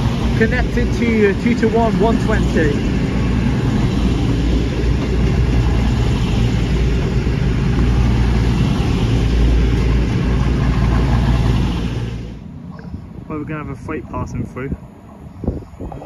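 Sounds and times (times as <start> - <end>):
diesel train engines droning: 0.0 - 16.0.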